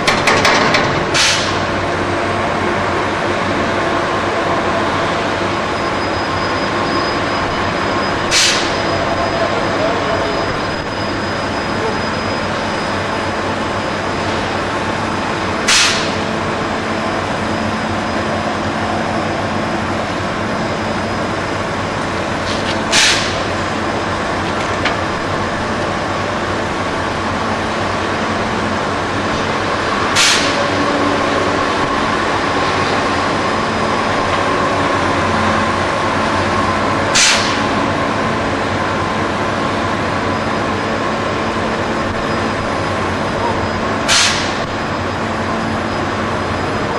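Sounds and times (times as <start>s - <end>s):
heavy crane machinery noise: 0.0s - 46.9s.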